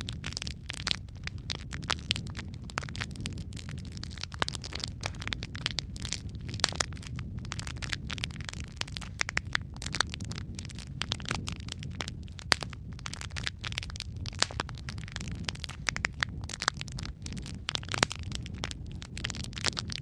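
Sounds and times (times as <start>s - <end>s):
fire crackling and popping: 0.0s - 20.0s
low roar of flame: 0.0s - 20.0s.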